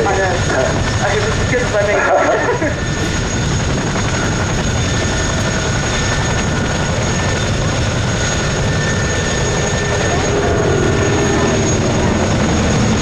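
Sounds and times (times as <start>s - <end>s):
biplane engines and propellers: 0.0s - 13.0s.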